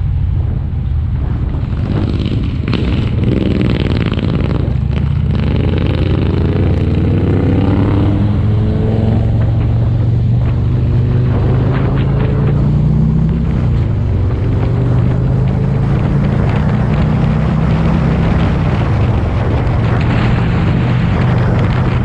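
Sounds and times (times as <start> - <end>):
wind buffeting microphone: 0.0 - 22.0
motorbike engine revving: 1.5 - 22.0.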